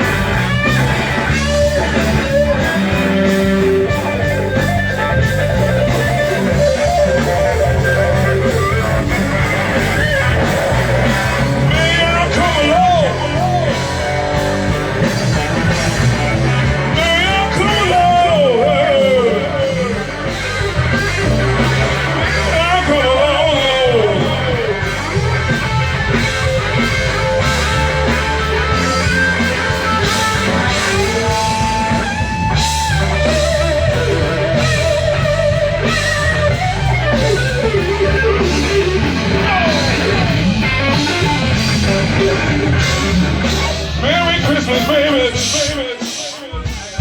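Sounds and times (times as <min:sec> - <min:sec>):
bass and drums: 0:00.0 - 0:47.0
electric guitar bending notes: 0:00.0 - 0:47.0.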